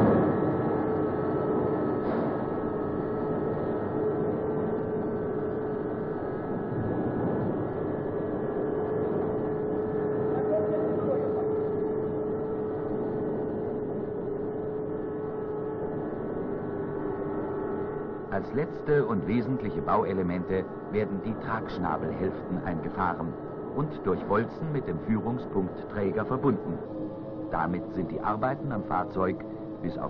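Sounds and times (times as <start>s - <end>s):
steady machinery hum: 0.0s - 30.0s.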